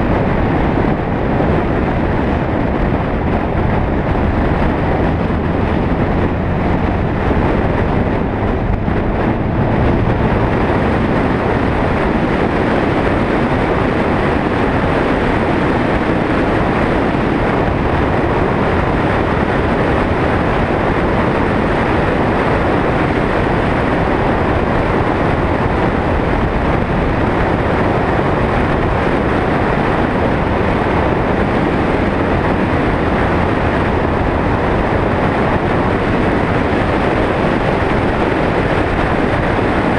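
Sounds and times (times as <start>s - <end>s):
engine: 0.0s - 39.9s
wind noise: 0.0s - 39.9s.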